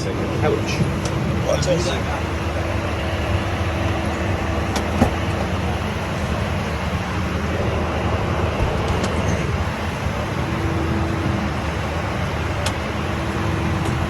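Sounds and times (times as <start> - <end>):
jet cabin drone: 0.0 - 14.0.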